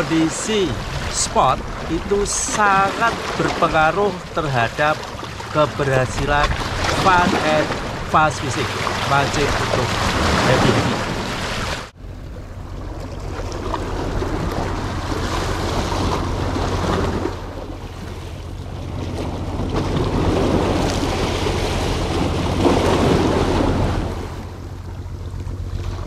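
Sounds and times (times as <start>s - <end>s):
waves splashing against rocks: 0.0s - 11.9s, 12.7s - 24.5s
wind buffeting microphone: 5.1s - 26.0s.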